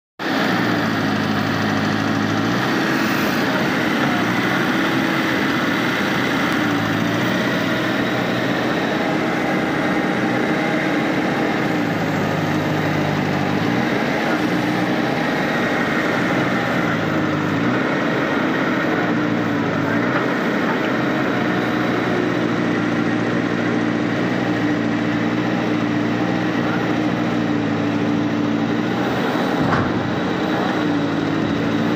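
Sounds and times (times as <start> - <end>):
backhoe diesel engine running: 0.2 - 31.9.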